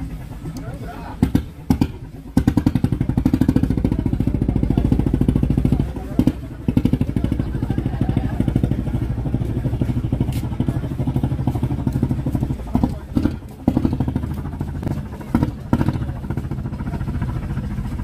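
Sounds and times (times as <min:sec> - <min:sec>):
small boat engine idling: 0:00.0 - 0:18.0.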